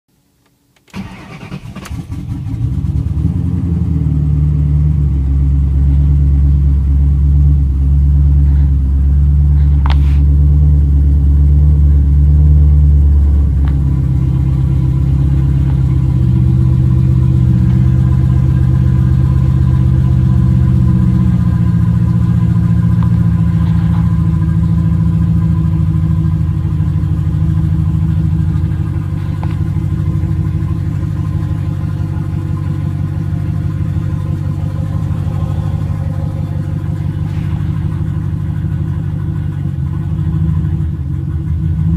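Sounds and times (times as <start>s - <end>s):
car engine starting and idling: 0.4s - 41.9s.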